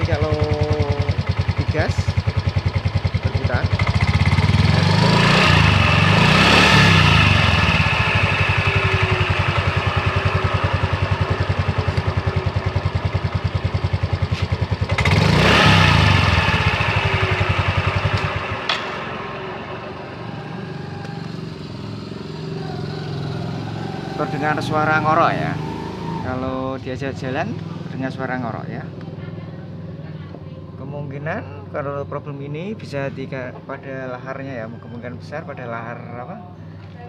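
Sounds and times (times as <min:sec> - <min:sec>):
scooter engine revving: 0:00.0 - 0:31.9.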